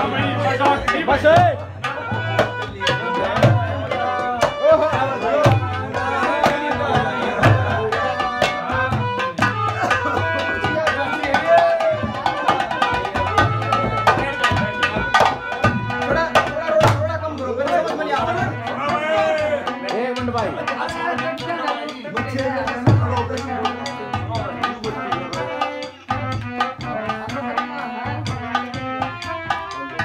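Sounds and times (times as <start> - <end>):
folk drums playing rhythm: 0.0 - 30.0
harmonium holding notes: 0.0 - 30.0.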